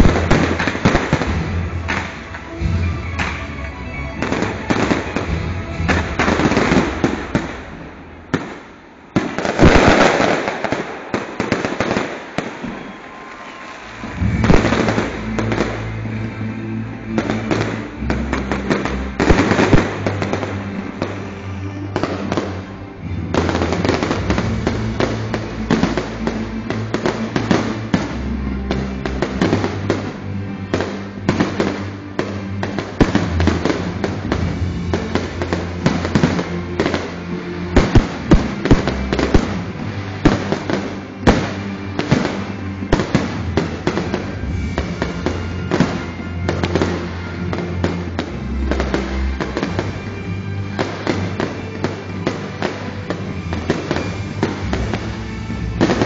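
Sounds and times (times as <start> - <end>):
fireworks bangs and crackles: 0.0 - 56.0
music: 0.0 - 56.0.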